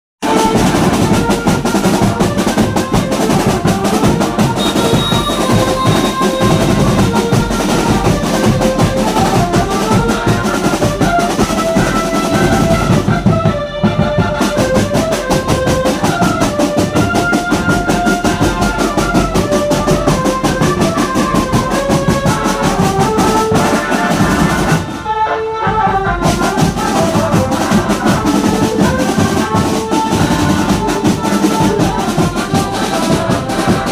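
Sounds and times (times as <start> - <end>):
rapid drumming: 0.2 - 25.0, 25.7 - 33.9
brass melody: 0.2 - 33.9.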